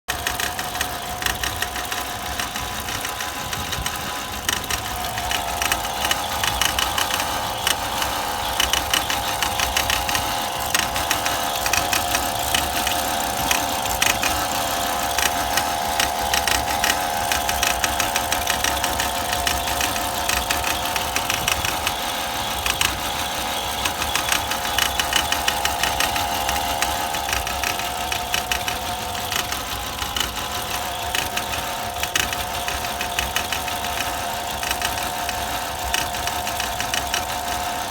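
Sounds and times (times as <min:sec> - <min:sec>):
engine misfiring with knocks: 0:00.1 - 0:37.9
steady higher hum: 0:03.4 - 0:37.9.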